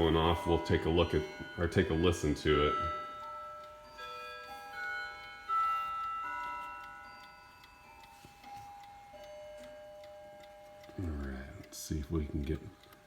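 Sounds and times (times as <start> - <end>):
clocks chiming: 0.0 - 13.0
clocks ticking: 0.0 - 13.0.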